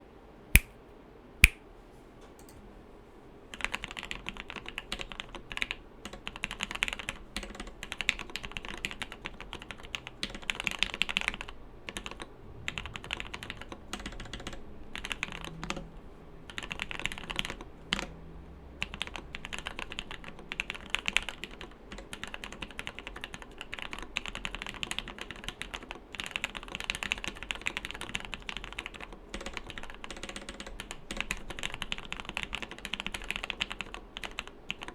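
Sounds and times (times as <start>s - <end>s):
mechanical keyboard typing: 3.5s - 18.2s, 18.8s - 34.9s.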